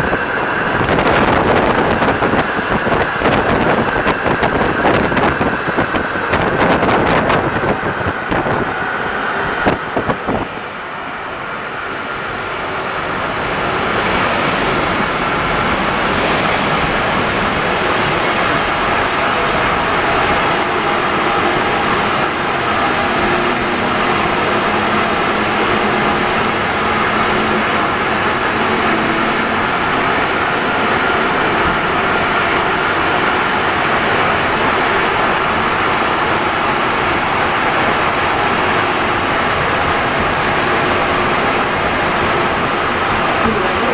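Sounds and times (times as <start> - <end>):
metro train rushing: 0.0 - 43.9
train clicks and knocks: 0.0 - 43.9.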